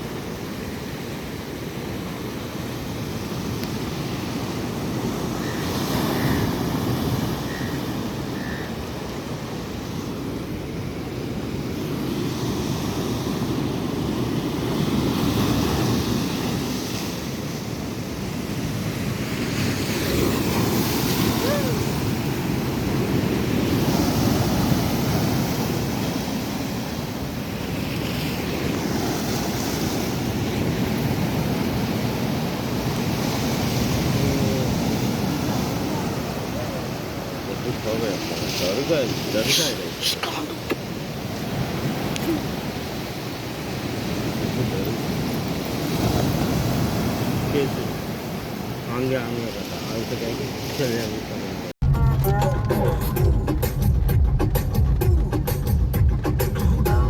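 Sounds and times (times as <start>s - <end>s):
sea waves breaking on beach: 0.0s - 51.8s.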